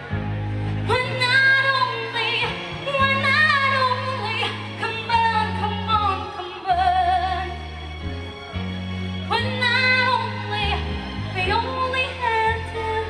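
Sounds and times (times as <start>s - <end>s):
backing music with bass: 0.0s - 13.0s
woman singing: 0.8s - 7.7s, 9.3s - 13.0s.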